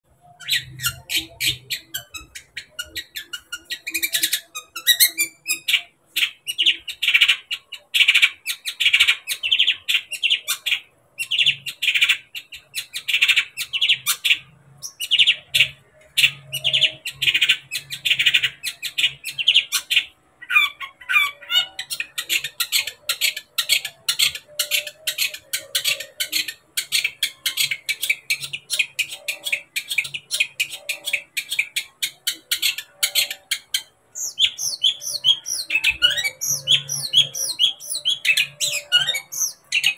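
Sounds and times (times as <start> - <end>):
shrike singing chatter: 0.1 - 39.9.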